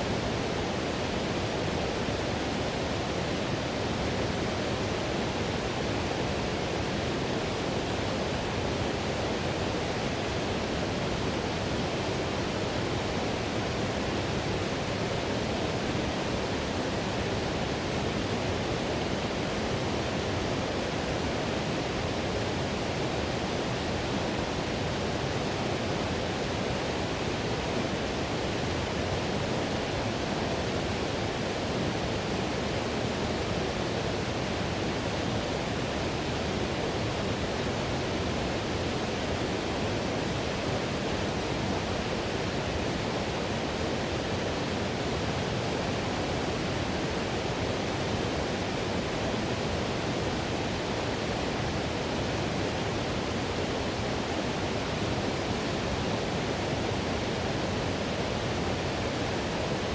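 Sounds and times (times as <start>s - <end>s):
whitewater rushing over rocks: 0.0s - 59.9s.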